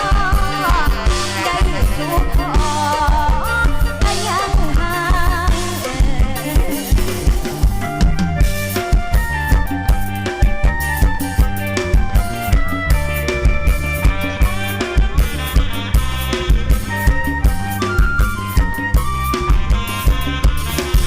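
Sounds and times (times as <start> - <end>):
drum kit steady beat: 0.0 - 21.0
wavering lead melody: 0.0 - 21.0.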